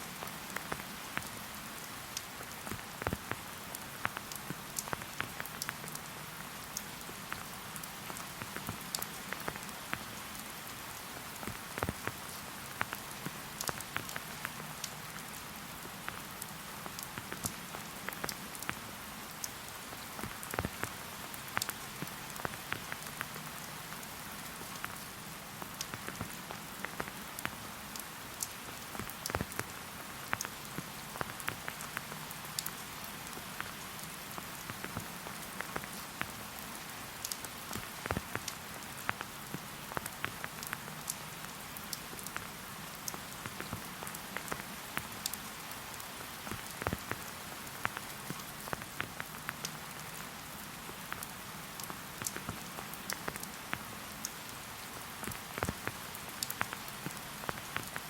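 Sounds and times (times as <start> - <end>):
steady rain hiss: 0.0 - 58.0
raindrops tapping: 2.2 - 10.2, 11.0 - 45.4, 46.0 - 54.5, 55.2 - 58.0.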